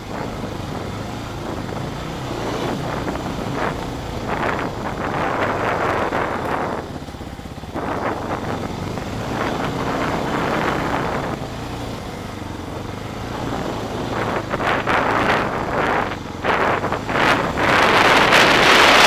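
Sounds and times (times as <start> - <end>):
atv engine running: 0.0 - 19.0
wind buffeting microphone: 0.0 - 19.0.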